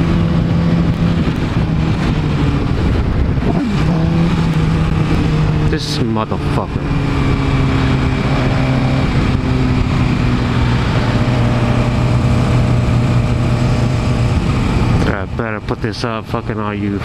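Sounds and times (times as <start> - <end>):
motorcycle engine running: 0.0 - 15.6
road and wind hiss: 0.0 - 17.0.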